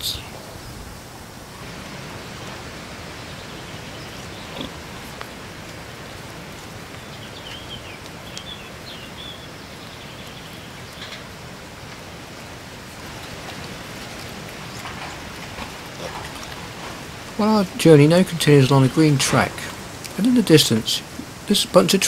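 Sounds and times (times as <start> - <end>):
steady noisy hiss: 0.0 - 22.0.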